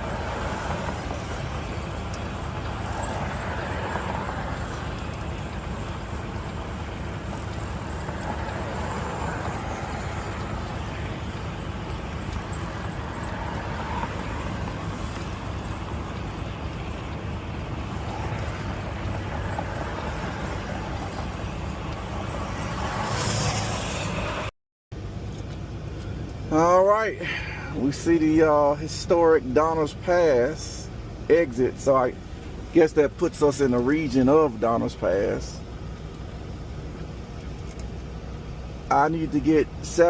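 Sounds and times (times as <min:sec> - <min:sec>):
truck diesel engine: 0:00.0 - 0:40.0
tyre and road noise: 0:00.0 - 0:40.0.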